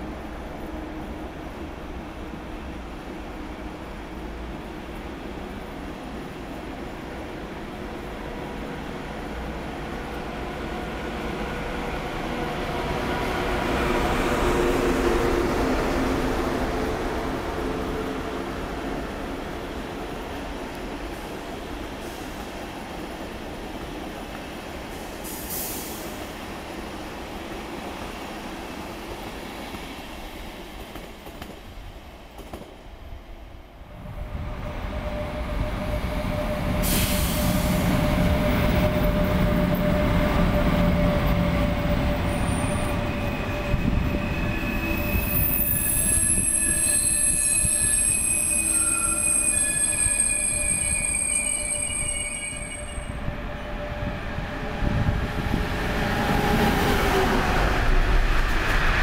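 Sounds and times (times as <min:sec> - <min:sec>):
train rumbling past: 0:00.0 - 0:33.2, 0:33.8 - 0:59.0
freight train passing: 0:00.0 - 0:59.0.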